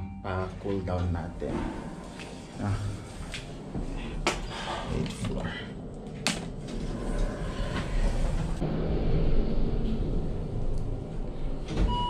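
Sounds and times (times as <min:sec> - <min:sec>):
lift rumbling: 0:00.7 - 0:12.0.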